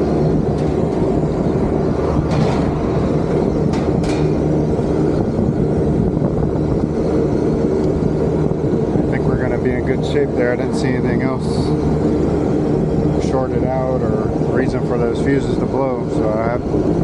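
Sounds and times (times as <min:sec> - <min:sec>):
air conditioning unit droning: 0:00.0 - 0:17.0.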